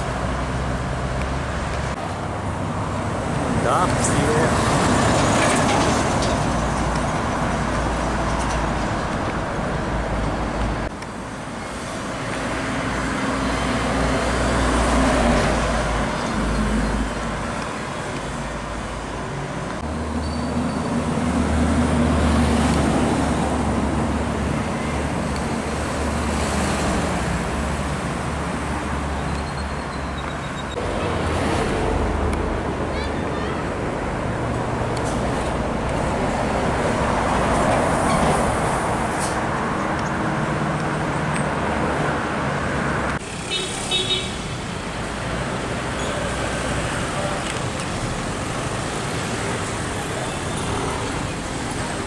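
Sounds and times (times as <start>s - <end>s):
trucks and cars passing at speed: 0.0s - 52.0s.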